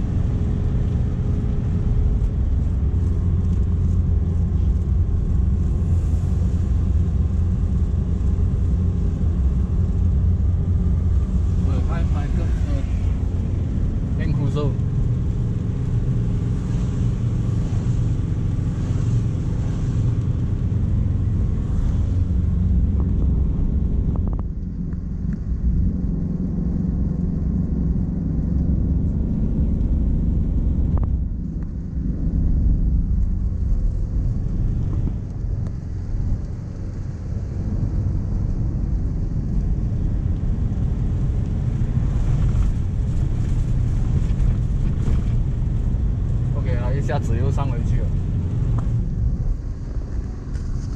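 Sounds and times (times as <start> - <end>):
car engine and tyre drone: 0.0 - 50.9.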